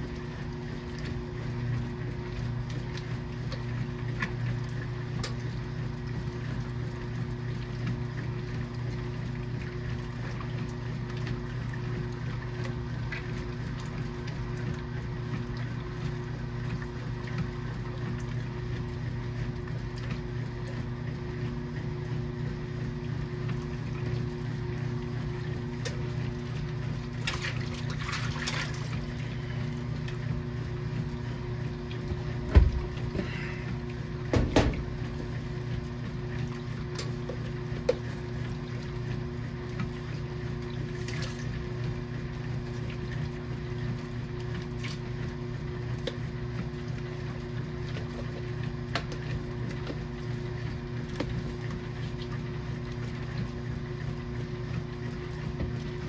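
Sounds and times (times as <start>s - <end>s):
washing machine running: 0.0s - 56.0s
water moving in tub: 0.0s - 56.0s.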